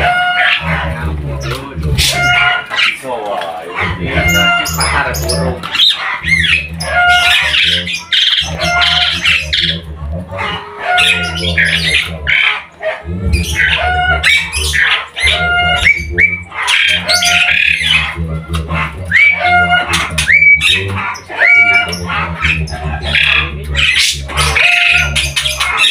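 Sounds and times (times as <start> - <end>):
steady low hum: 0.0 - 2.7, 3.9 - 25.7
caged songbirds singing: 0.0 - 25.9.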